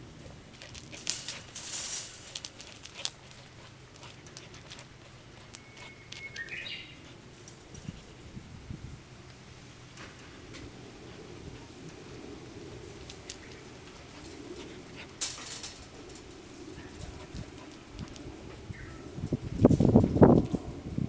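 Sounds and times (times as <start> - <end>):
rustling and scratching: 0.0 - 8.6, 9.9 - 21.0.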